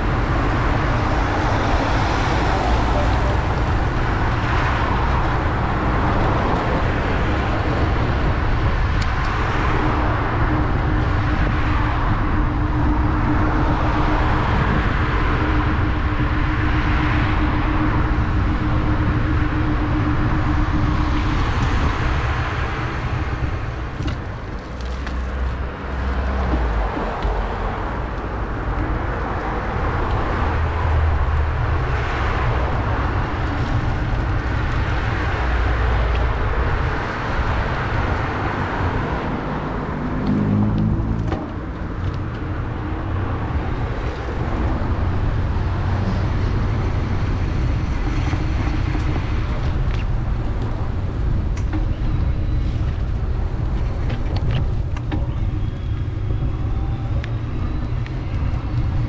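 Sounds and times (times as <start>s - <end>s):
car traffic rumble: 0.0s - 59.0s
steady hum: 0.0s - 59.0s.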